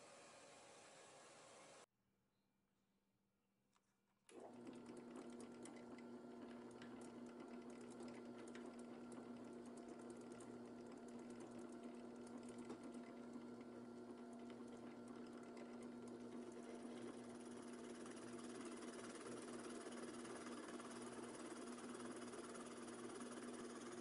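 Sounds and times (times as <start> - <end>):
drill press boring into wood: 4.3 - 24.0.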